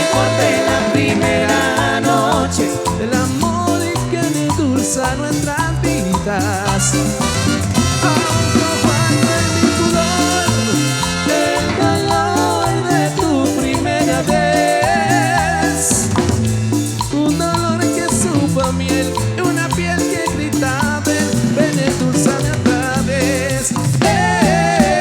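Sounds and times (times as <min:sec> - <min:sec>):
keyboard melody: 0:00.0 - 0:25.0
latin band playing: 0:00.0 - 0:25.0.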